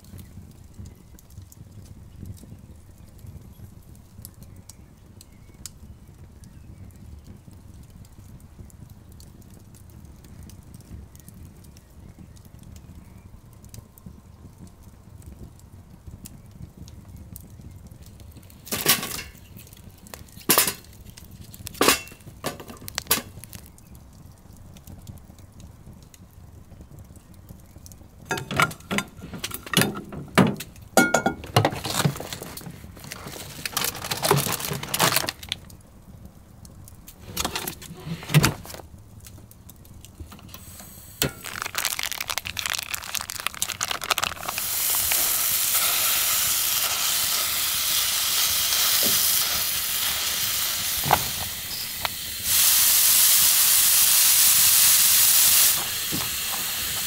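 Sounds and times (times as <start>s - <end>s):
burning logs snapping: 0.0s - 57.0s.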